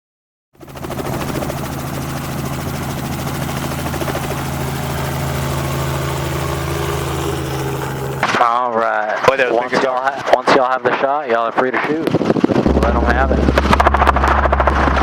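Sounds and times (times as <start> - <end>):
helicopter engine and rotor drone: 0.6 - 15.0.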